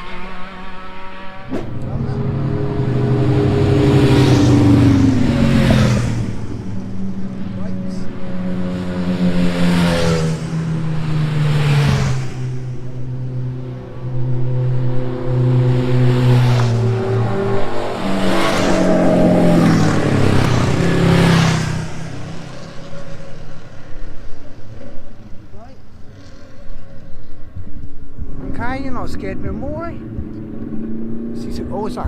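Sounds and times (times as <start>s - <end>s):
racing engine accelerating hard: 0.0s - 27.6s, 28.2s - 32.0s.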